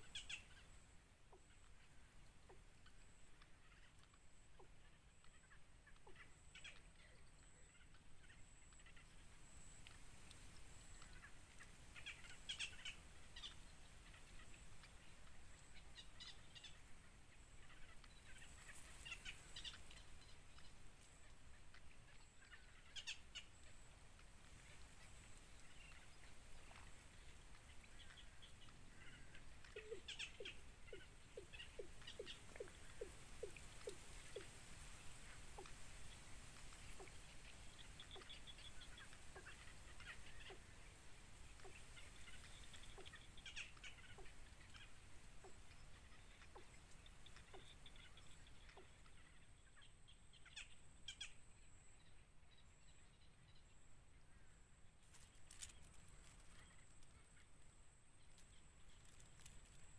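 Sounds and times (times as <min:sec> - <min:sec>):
low hiss: 0:00.0 - 0:59.9.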